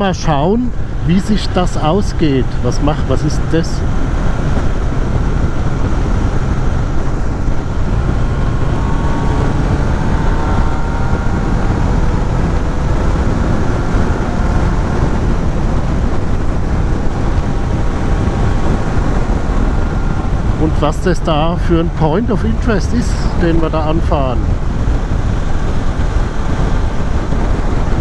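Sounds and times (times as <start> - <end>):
motorcycle engine hum: 0.0 - 28.0
wind and road noise: 0.0 - 28.0.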